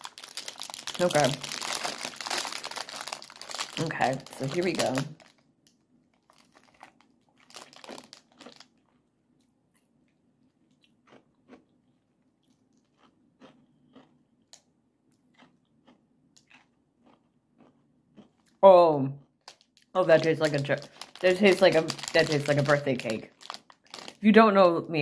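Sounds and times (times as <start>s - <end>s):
candy crunching: 0.0s - 25.0s.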